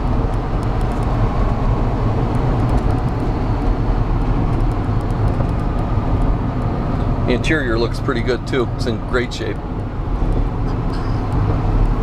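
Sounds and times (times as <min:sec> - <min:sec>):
pickup truck engine droning: 0:00.0 - 0:12.0
road and tyre noise: 0:00.0 - 0:12.0.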